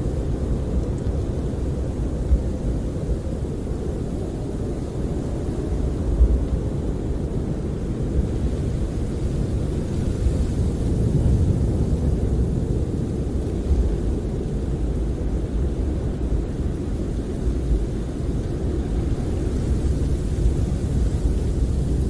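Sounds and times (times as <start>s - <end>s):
wind buffeting a camper: 0.0s - 22.0s.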